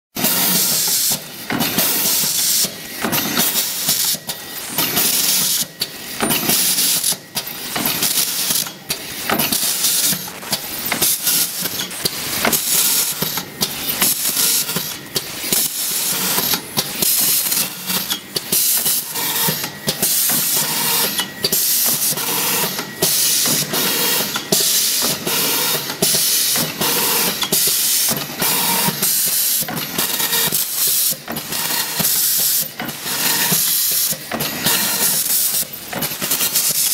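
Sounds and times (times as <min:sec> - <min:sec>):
packing machine hissing: 0:00.2 - 0:36.9.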